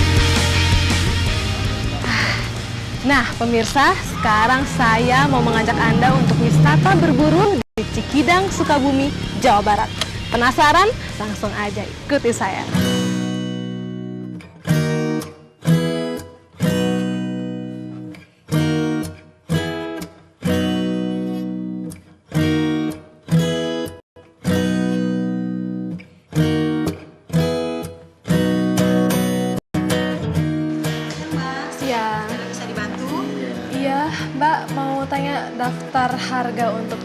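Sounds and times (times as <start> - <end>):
strummed acoustic guitar chords: 0.0 - 3.9, 4.8 - 37.0.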